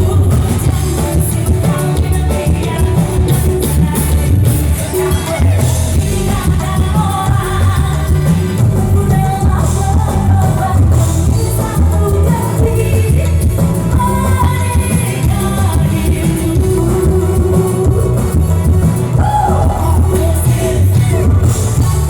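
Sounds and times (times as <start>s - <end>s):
live band music: 0.0s - 22.0s
woman singing: 0.0s - 22.0s.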